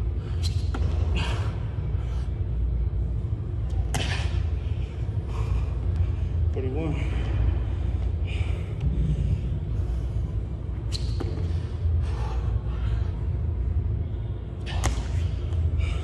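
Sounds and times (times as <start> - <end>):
low hum of gym hall: 0.0 - 16.0.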